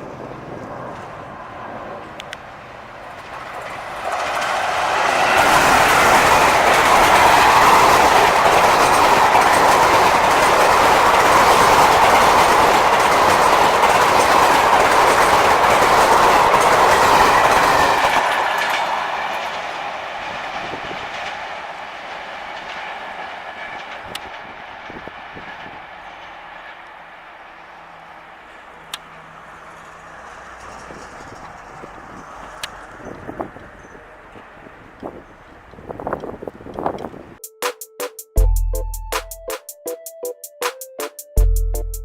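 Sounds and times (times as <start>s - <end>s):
train passing at high speed: 0.0s - 37.5s.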